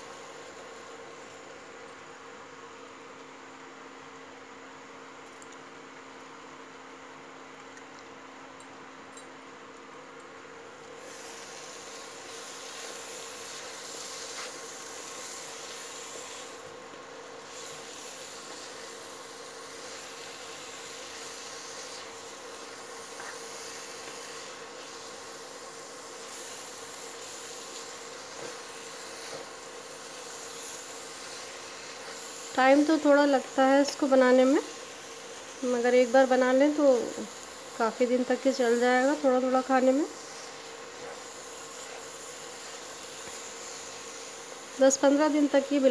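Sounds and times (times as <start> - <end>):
soft sizzle in pan: 0.0 - 8.6, 9.6 - 45.9
induction cooktop hum: 0.0 - 45.9.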